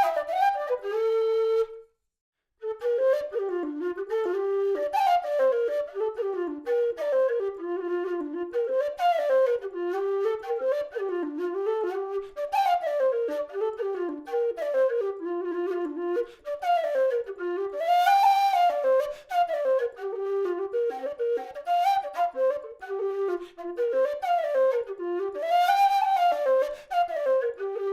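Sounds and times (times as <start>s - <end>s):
low whistle melody: 0.0s - 2.0s, 2.6s - 27.9s.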